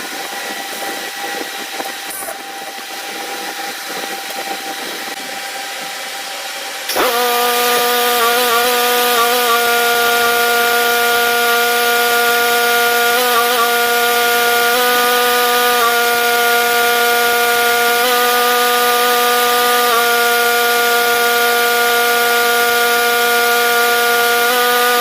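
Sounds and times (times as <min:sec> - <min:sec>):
machine motor humming: 0:00.0 - 0:25.0.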